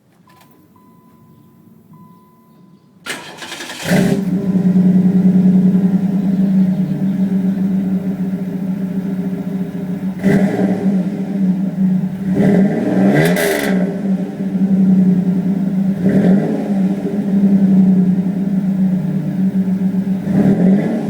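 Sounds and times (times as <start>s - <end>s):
car engine idling and revving: 0.6s - 21.0s.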